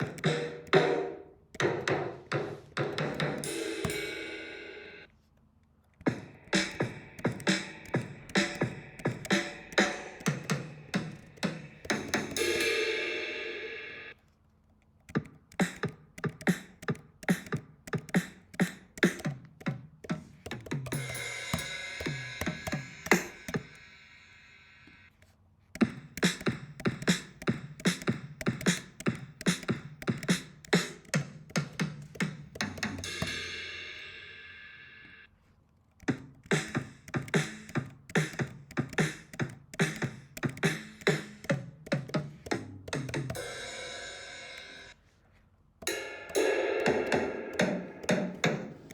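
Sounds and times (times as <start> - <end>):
drum kit beat: 0.0 - 5.1, 6.0 - 14.1, 15.1 - 24.4, 25.8 - 34.8, 36.0 - 45.0, 45.8 - 48.9.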